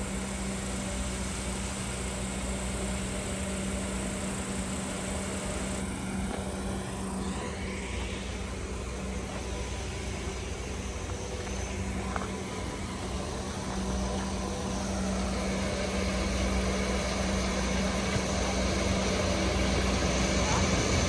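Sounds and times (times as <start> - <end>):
heavy engine humming: 0.0 - 21.0.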